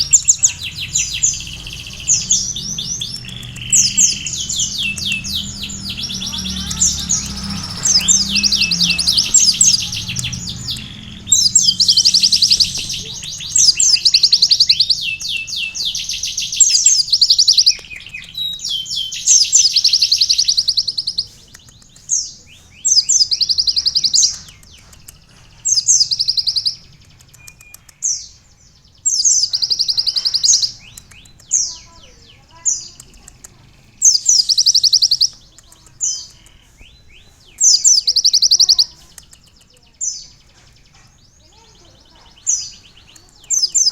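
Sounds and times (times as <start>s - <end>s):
bird singing high trills: 0.0s - 33.0s, 33.8s - 43.9s.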